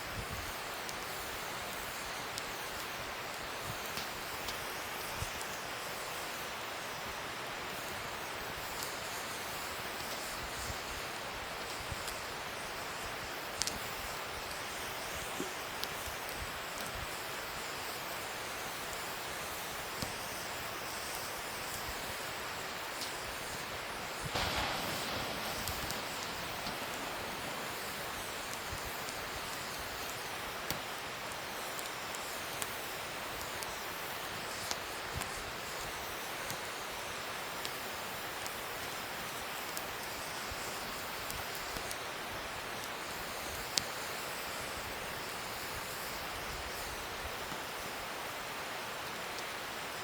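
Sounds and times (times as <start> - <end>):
rush of flame: 0.0 - 50.0
wood fire crackling and popping: 0.0 - 50.0.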